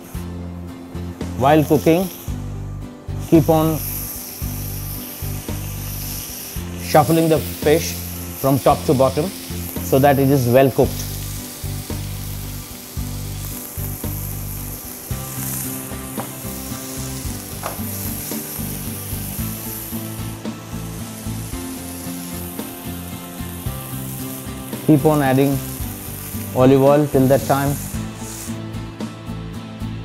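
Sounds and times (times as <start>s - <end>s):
fish sizzling in a pan: 3.2s - 28.9s.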